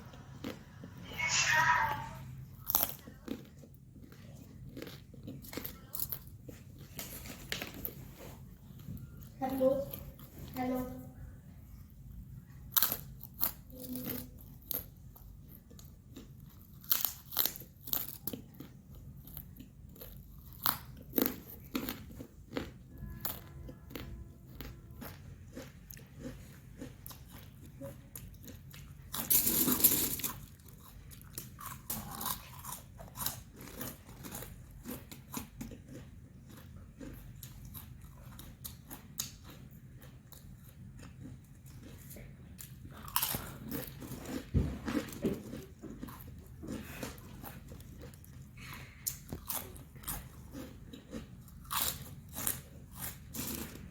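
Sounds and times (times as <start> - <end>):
crunching potato chips: 2.6 - 8.0, 12.7 - 53.9.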